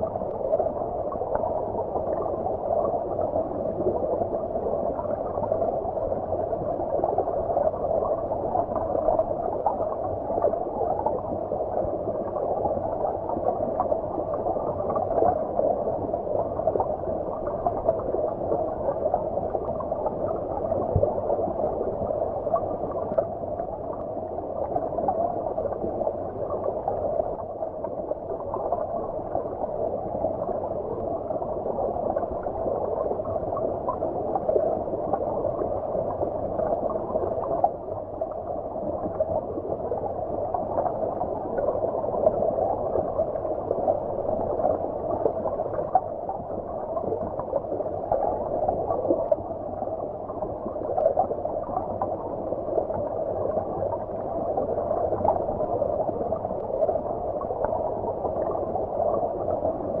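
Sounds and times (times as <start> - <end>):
underwater stream gurgling: 0.0 - 60.0.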